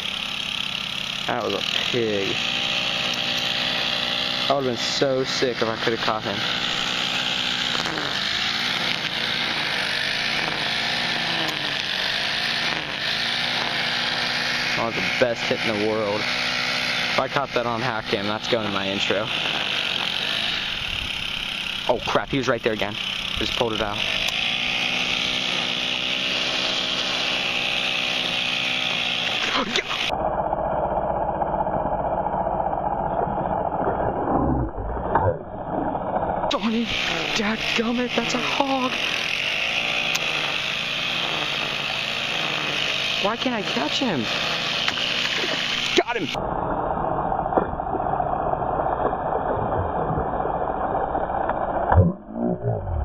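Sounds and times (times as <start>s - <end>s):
low steady rumble: 0.0s - 27.5s, 29.2s - 44.6s, 46.2s - 53.0s
motor-like drone: 0.0s - 53.0s.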